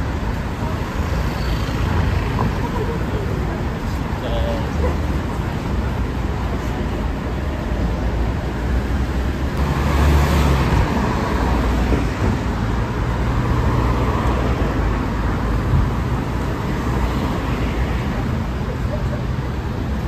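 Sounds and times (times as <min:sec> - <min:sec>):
city street traffic: 0:00.0 - 0:20.0
vehicle passing rumble: 0:01.7 - 0:20.0.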